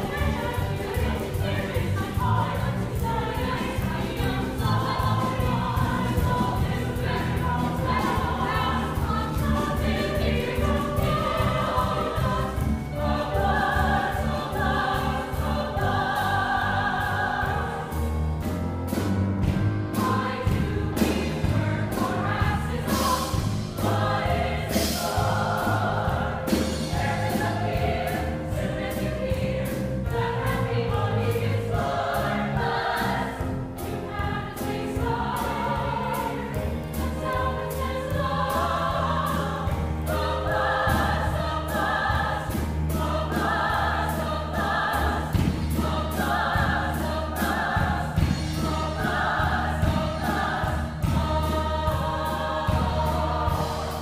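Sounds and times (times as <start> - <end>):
ensemble singing show tune: 0.0 - 18.0, 19.9 - 54.0.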